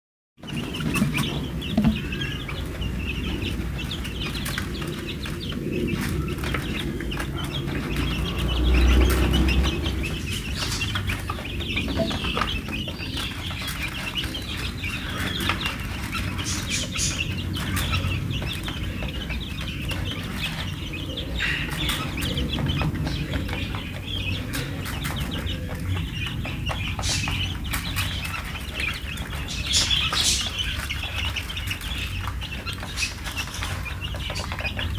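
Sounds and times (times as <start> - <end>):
chicks pecking on plastic tray: 0.4 - 34.9
chicks peeping: 0.4 - 34.9.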